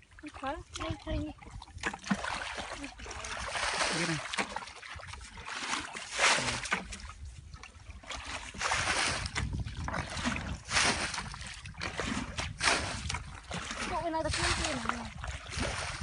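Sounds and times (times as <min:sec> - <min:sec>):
bucket scooping muddy water: 0:00.0 - 0:16.0.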